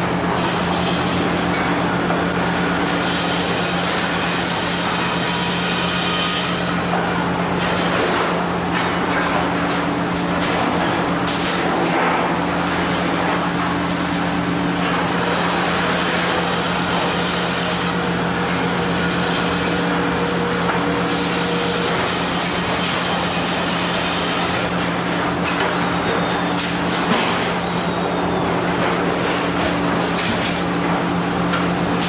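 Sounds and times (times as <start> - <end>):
sawmill machinery humming and whirring: 0.0 - 32.0.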